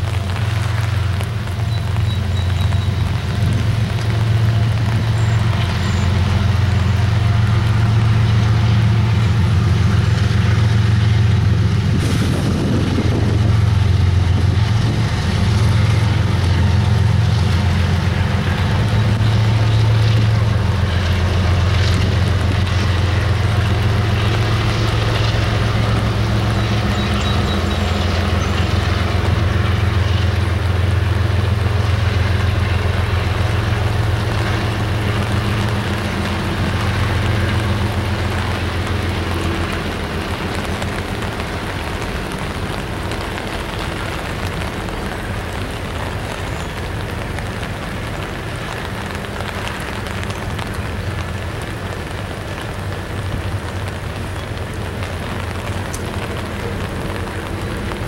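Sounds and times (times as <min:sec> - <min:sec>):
diesel locomotives droning: 0:00.0 - 0:58.0
freight cars rumbling: 0:00.0 - 0:58.0.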